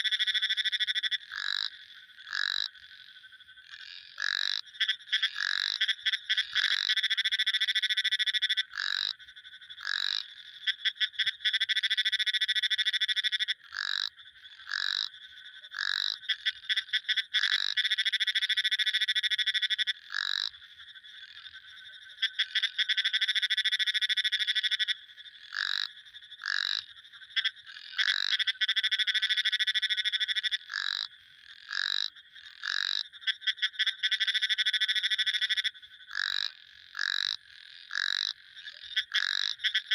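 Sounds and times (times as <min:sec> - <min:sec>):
frogs trilling: 0:00.0 - 0:39.9.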